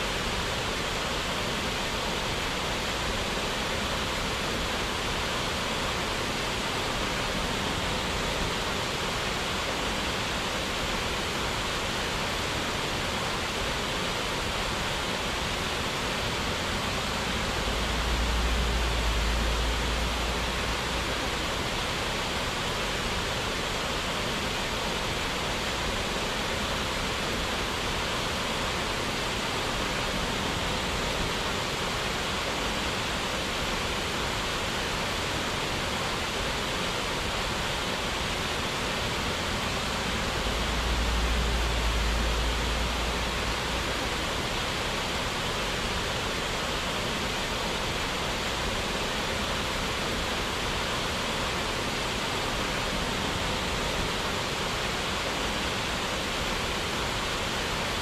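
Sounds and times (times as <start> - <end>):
rushing falling water: 0.0 - 58.0.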